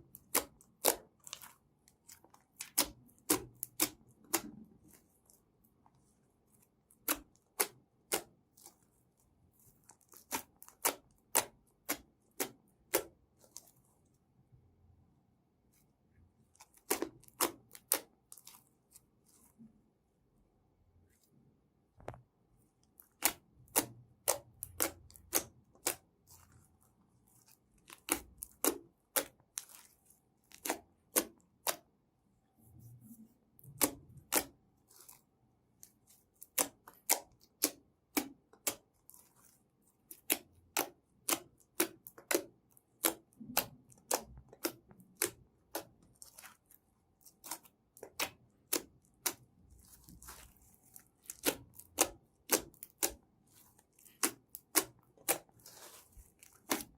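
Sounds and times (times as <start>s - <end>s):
slime squishing: 0.0s - 14.4s, 15.7s - 20.0s, 21.1s - 56.9s.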